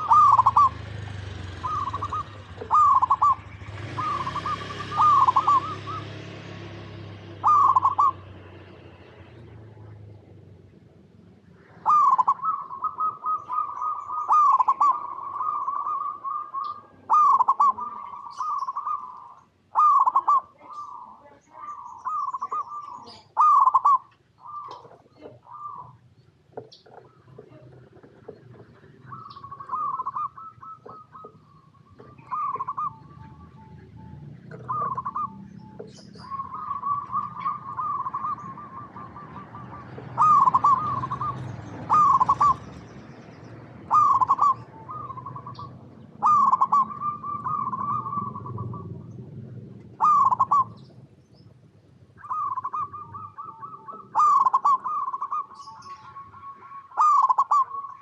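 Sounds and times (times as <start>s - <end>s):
dove down-curving notes: 0.0s - 58.0s
doves trilling coos: 0.0s - 58.0s.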